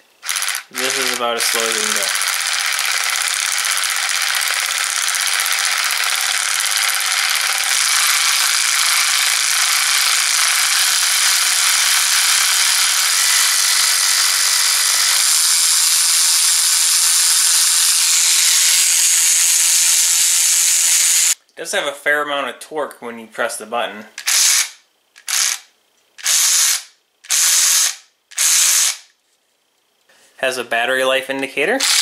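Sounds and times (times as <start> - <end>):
cordless ratchet wrench whirring: 0.0 - 21.4, 24.2 - 29.1, 31.8 - 32.0.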